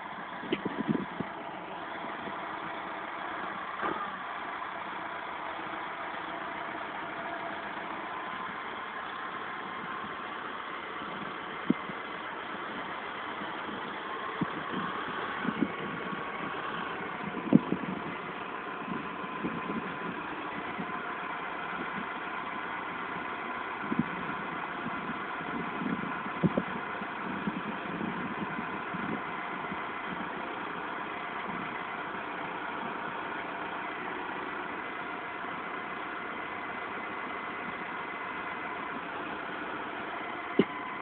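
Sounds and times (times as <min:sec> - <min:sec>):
tractor diesel engine idling: 0:00.0 - 0:41.0.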